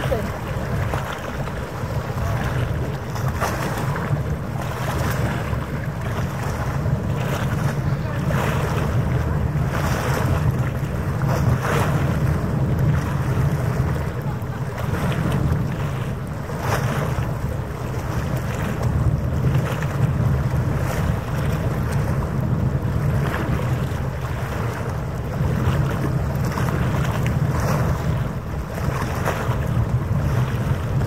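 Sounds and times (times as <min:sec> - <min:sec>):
water lapping at shore: 0:00.0 - 0:31.0
wind buffeting microphone: 0:00.0 - 0:31.0.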